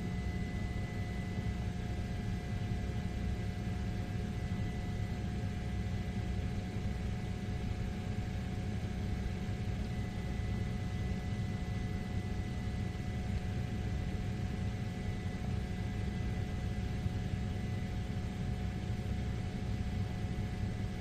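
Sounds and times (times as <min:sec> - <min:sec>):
faint constant whines: 0:00.0 - 0:21.0.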